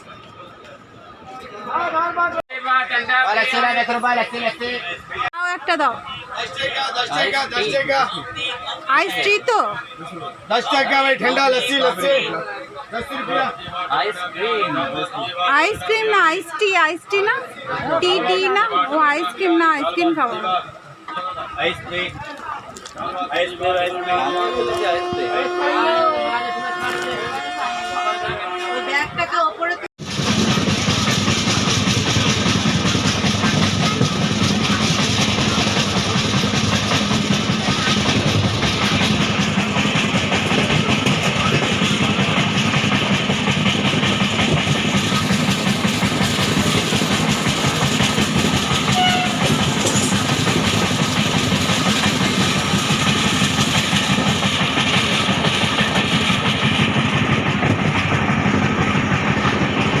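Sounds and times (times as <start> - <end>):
train wheels rumbling on rails: 3.3 - 60.0.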